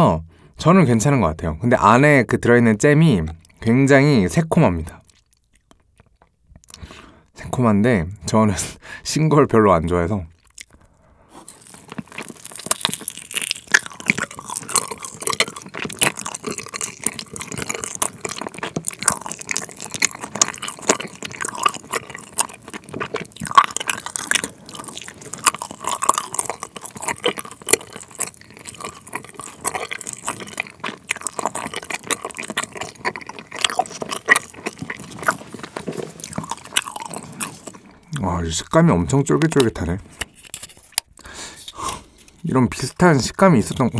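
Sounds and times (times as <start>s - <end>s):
chewing gummy candy: 3.0s - 6.9s, 10.3s - 43.9s.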